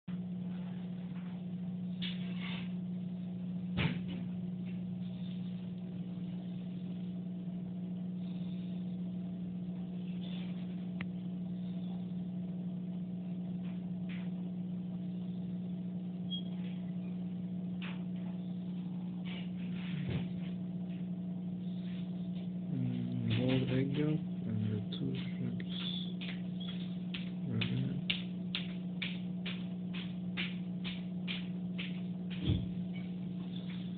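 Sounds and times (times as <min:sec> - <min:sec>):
low electrical hum: 0:00.1 - 0:33.9.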